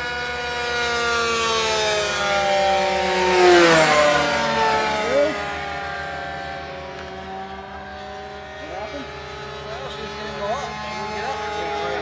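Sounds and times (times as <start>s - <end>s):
model airplane engine passing: 0.0s - 12.0s.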